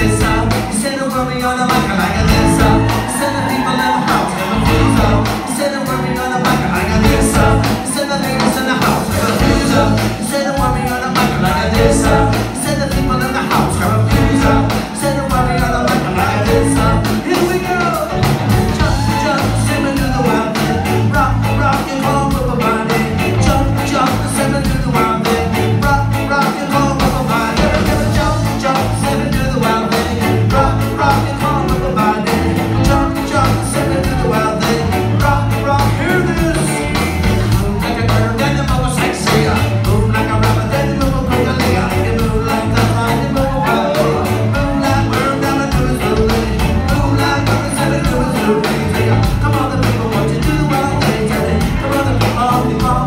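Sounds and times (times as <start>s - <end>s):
lead singer singing: 0.0s - 53.0s
live rock band playing: 0.0s - 53.0s.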